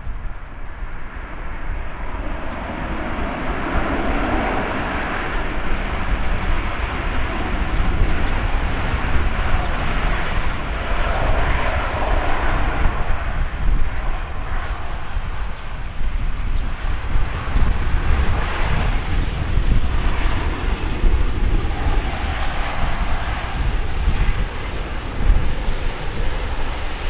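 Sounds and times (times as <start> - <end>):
jet airliner landing: 0.0 - 27.0.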